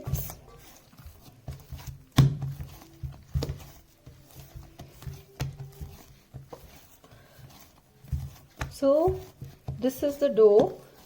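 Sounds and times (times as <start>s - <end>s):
hands kneading dough thumps: 0.0s - 11.0s.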